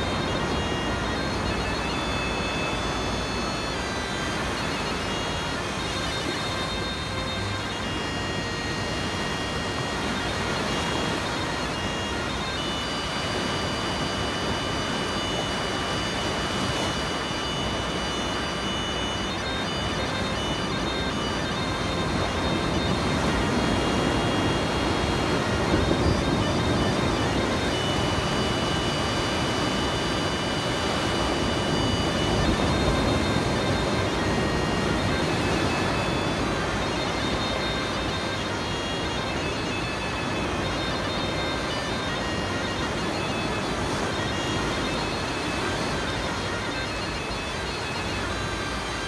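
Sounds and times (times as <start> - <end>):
bagpipe music: 0.0 - 49.0
waves breaking on sand beach: 0.0 - 49.0.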